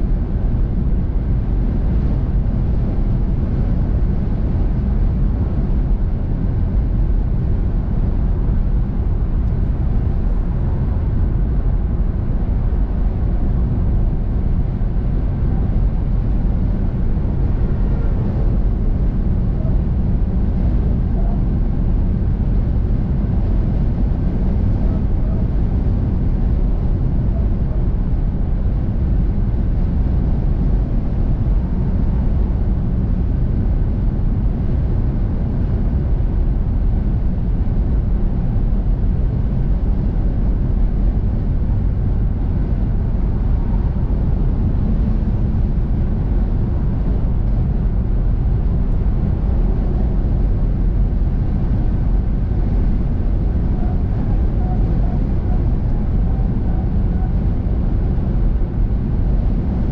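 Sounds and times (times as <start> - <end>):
car engine and tyre noise: 0.0 - 59.8.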